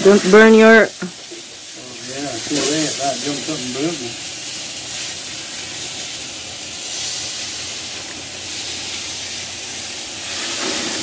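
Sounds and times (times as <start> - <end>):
meat sizzling on a grill: 0.0 - 11.0.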